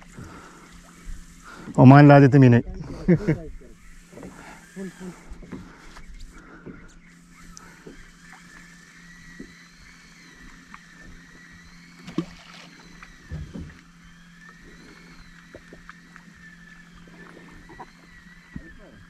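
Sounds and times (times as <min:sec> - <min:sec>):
faint wavering whine: 0:00.0 - 0:19.0
steady low hum: 0:00.0 - 0:19.0.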